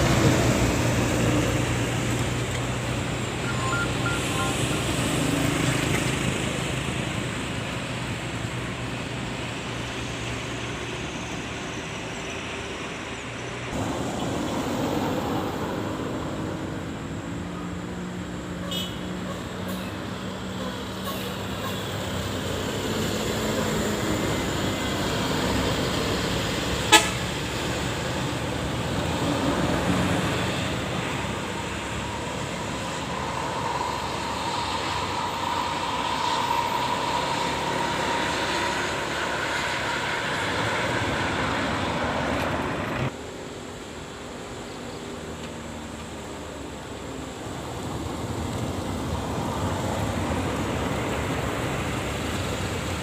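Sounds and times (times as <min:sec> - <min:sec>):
road traffic: 0:00.0 - 0:53.0.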